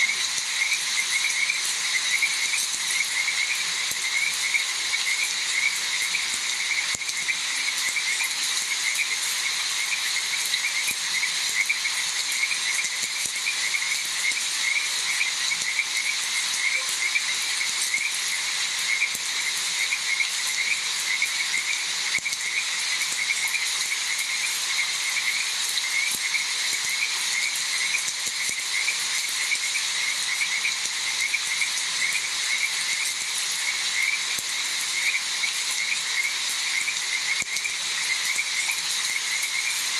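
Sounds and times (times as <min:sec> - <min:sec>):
frogs calling: 0:00.0 - 0:39.9
rain falling: 0:00.0 - 0:39.9.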